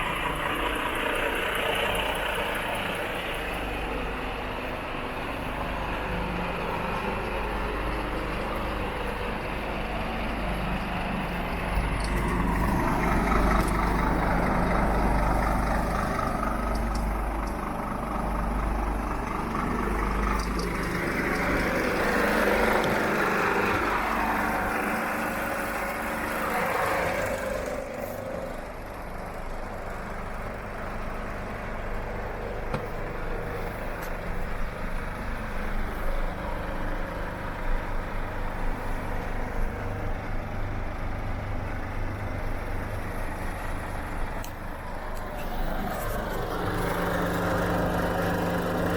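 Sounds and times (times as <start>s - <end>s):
diesel truck engine rumbling: 0.0s - 48.9s.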